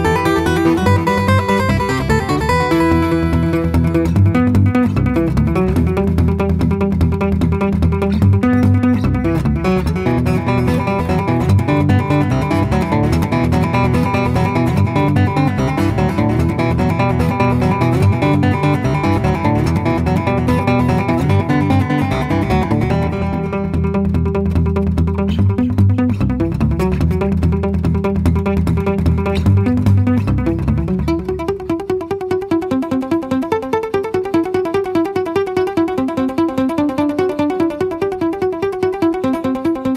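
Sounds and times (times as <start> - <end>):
solo guitar picking: 0.0 - 39.9.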